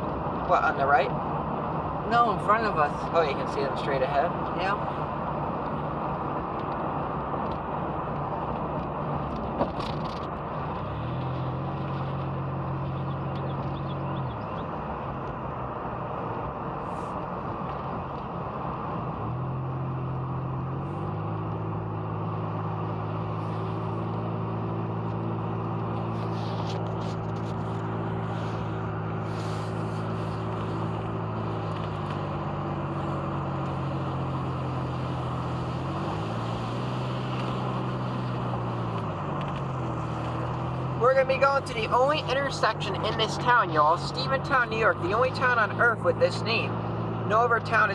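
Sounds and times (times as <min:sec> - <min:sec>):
low engine hum: 0:00.0 - 0:47.9
road and tyre noise: 0:00.0 - 0:47.9.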